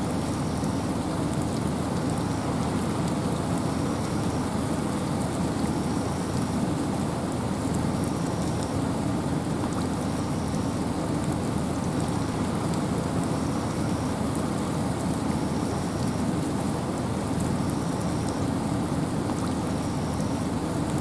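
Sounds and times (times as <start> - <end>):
rain: 0.0 - 21.0
wind: 0.0 - 21.0.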